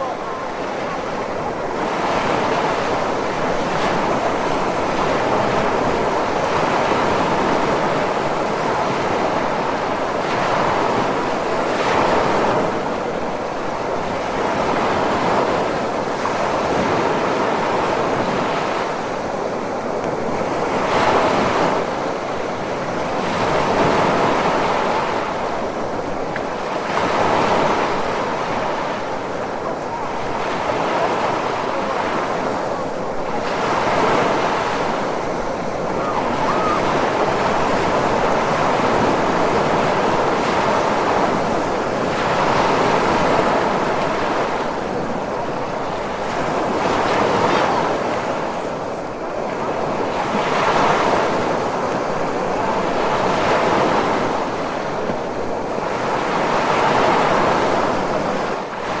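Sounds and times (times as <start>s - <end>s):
waves breaking and rushing: 0.0s - 59.0s.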